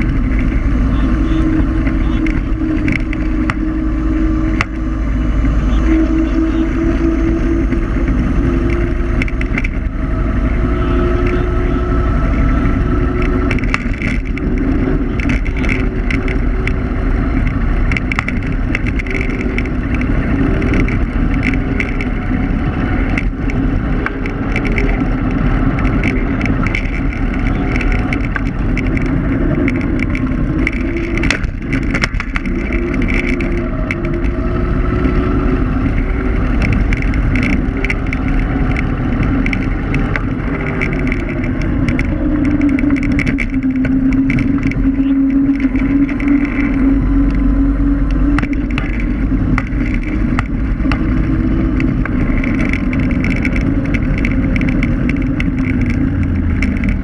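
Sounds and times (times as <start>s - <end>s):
sharp knocks from road bumps: 0.0s - 5.8s, 10.7s - 47.4s, 48.1s - 57.0s
electric scooter motor whining: 0.0s - 57.0s
wind and tyres on asphalt: 0.0s - 57.0s.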